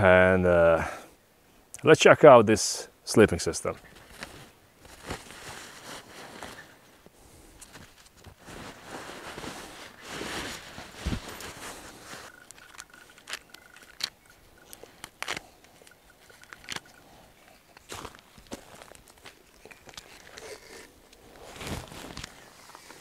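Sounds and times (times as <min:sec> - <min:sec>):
nylon webbing rustling: 0:03.8 - 0:23.0.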